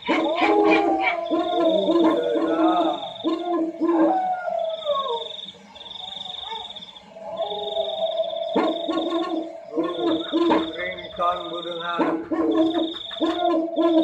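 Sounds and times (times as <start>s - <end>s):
howl-like animal cries: 0.0s - 11.1s, 12.0s - 14.0s.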